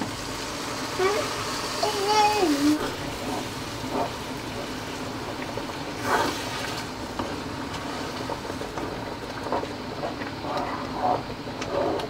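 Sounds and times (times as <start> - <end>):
sauce bubbling in a wok: 0.0 - 12.0.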